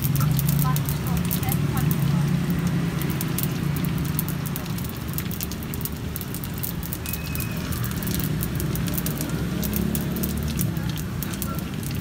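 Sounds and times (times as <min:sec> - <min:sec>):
hot oil sizzling and popping: 0:00.0 - 0:12.0.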